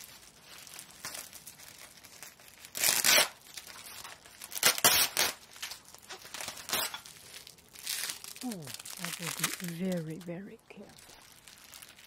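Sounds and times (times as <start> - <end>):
plastic packaging film crinkling: 0.0 - 12.0.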